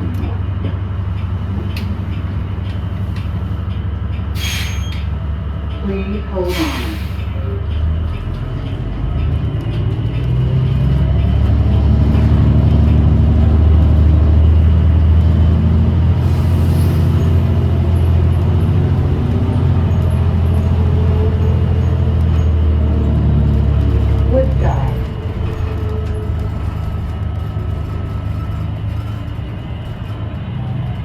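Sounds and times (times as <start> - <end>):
bus interior drone and rumble: 0.0 - 31.0.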